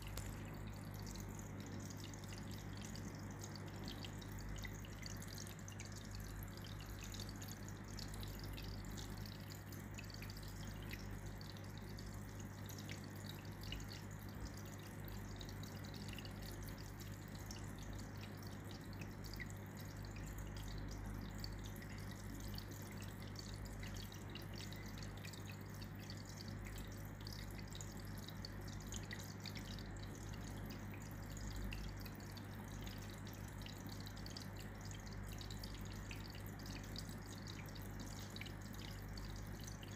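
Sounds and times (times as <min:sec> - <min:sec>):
faint water dripping: 0:00.0 - 0:39.9
steady low hum: 0:00.0 - 0:39.9.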